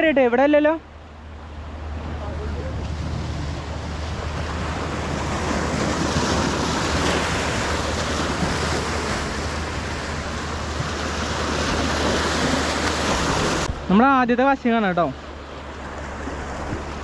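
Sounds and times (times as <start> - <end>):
sea surf washing on shore: 0.0 - 17.0
wind rumbling on microphone: 0.8 - 14.0, 15.1 - 17.0.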